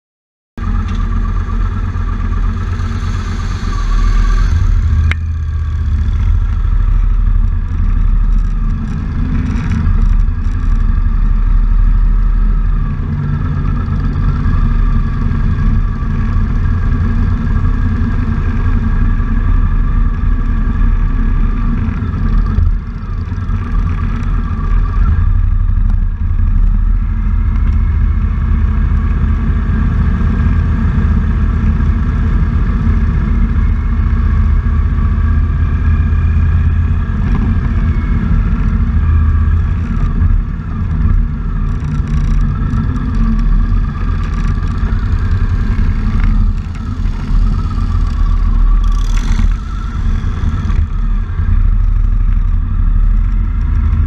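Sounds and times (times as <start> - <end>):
motorcycle engine rumbling: 0.6 - 54.0.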